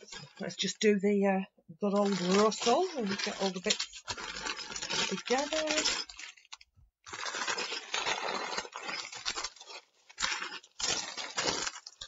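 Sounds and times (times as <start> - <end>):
plastic bags crinkling: 0.0 - 0.8, 1.9 - 12.0.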